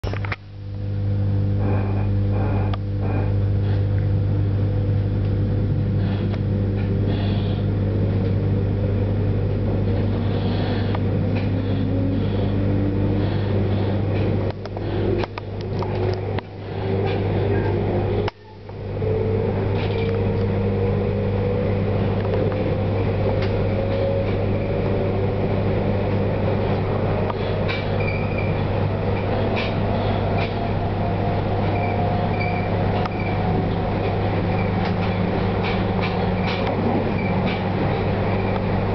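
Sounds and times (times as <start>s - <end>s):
low hum: 0.0s - 38.9s
train motor whine rising: 6.0s - 38.9s.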